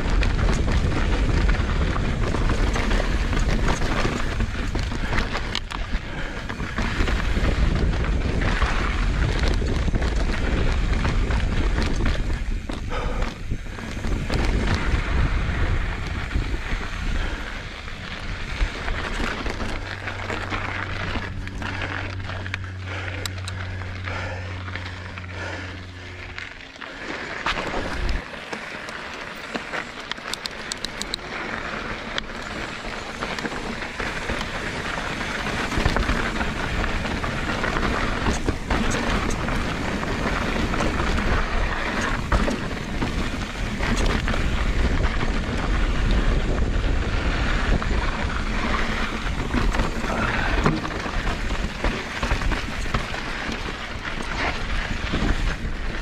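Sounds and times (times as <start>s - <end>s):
wind rumble on microphone: 0.0s - 28.2s, 29.4s - 56.0s
bike clicks and knocks: 0.0s - 56.0s
tyres crunching over gravel: 0.0s - 56.0s.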